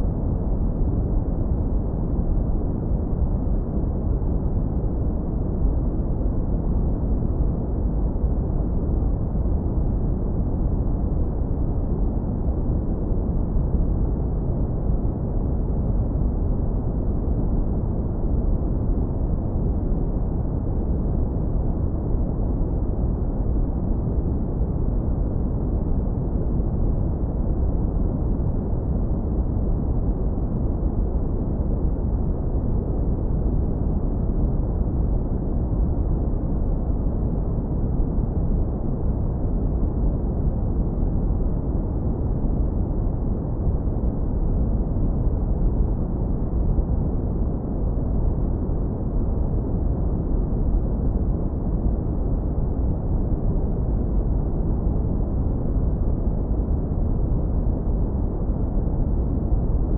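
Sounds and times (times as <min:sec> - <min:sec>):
deep bass brown noise rumble: 0:00.0 - 0:59.9.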